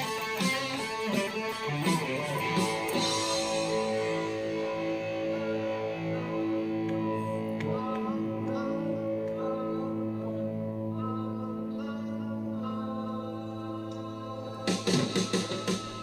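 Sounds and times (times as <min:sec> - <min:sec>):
guitar playing: 0:00.0 - 0:16.0.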